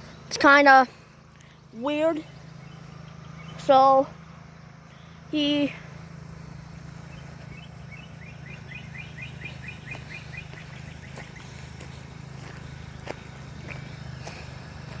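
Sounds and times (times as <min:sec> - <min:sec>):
steady low hum: 0:00.0 - 0:15.0
small bird chirping: 0:01.3 - 0:15.0.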